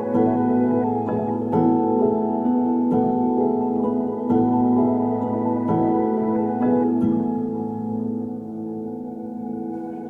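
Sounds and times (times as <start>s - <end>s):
ambient music with ringing tones: 0.0s - 10.0s.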